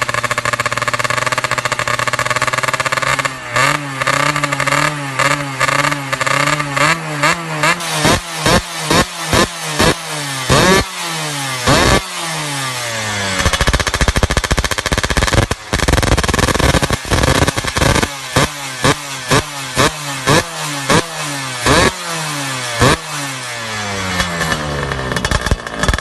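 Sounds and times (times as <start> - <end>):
exhaust rattling crackle: 0.0 - 10.9, 13.2 - 21.9, 24.0 - 26.0
two-stroke engine revving: 0.0 - 26.0.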